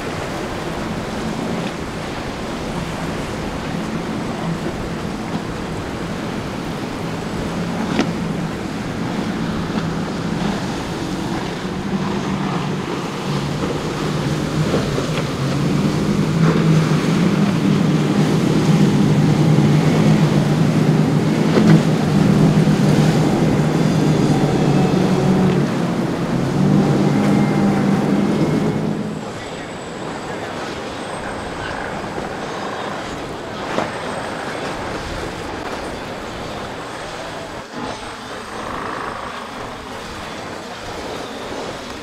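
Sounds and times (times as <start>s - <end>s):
boat engines droning: 0.0s - 42.0s
waves washing: 0.0s - 42.0s
wind: 0.0s - 42.0s.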